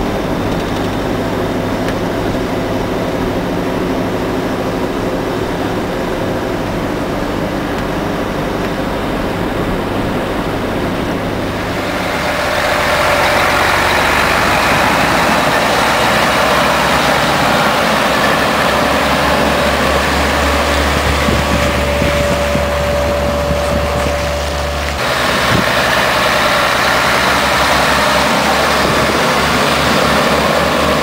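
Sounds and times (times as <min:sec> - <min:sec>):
road noise inside vehicle: 0:00.0 - 0:31.0
steady low hum: 0:00.0 - 0:31.0
truck diesel engine running: 0:00.0 - 0:31.0.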